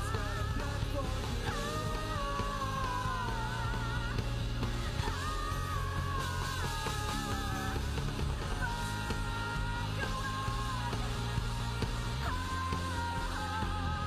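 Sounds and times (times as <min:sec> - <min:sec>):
pop-rock band playing: 0:00.0 - 0:14.0.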